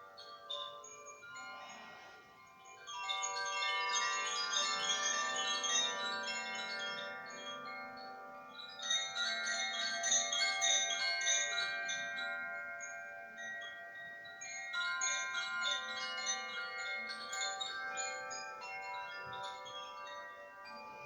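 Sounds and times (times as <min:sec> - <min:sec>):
wind chimes ringing: 0:00.0 - 0:21.0.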